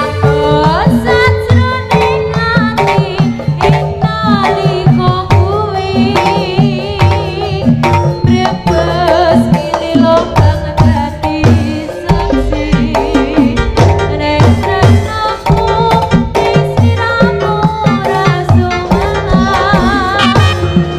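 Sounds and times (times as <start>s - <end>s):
hand drums beating fast rhythm: 0.0s - 20.9s
wavering melody with vibrato: 0.0s - 20.9s.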